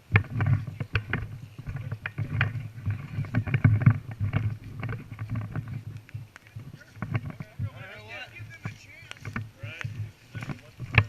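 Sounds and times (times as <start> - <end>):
footsteps crunching: 0.0 - 11.0
gear rustling and knocking: 0.0 - 11.0.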